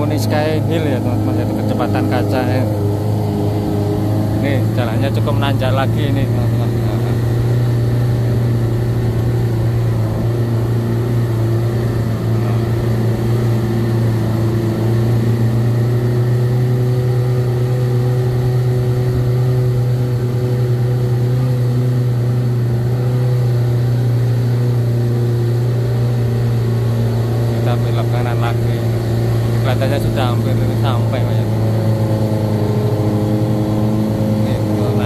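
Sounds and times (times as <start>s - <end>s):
jeep engine droning uphill: 0.0s - 35.0s.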